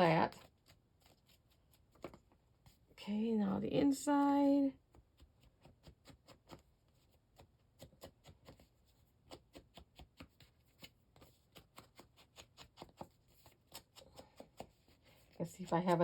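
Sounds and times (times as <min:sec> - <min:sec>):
paper handling: 0:00.0 - 0:02.8, 0:04.9 - 0:16.0.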